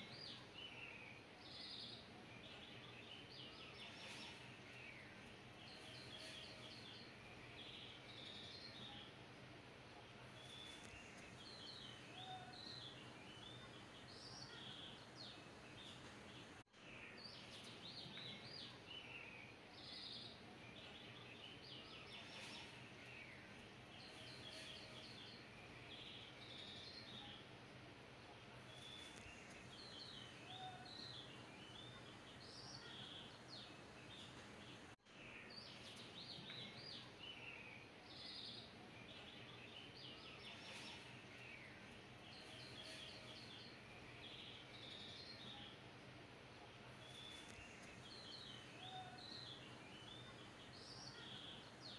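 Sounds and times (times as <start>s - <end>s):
birds chirping: 0.0s - 51.9s
low steady hiss: 0.0s - 51.9s.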